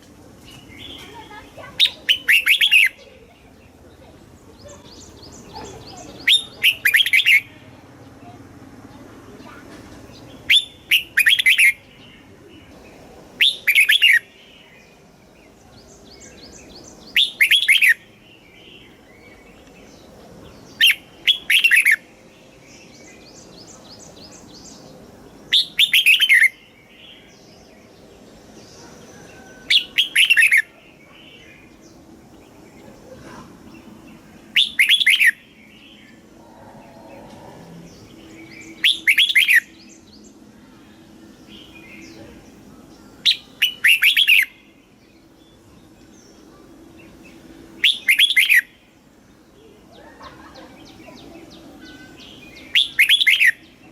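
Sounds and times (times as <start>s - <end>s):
faint high bird chirps: 0.4s - 8.5s, 9.3s - 48.8s, 49.5s - 53.9s
bird warbling song: 0.4s - 53.9s.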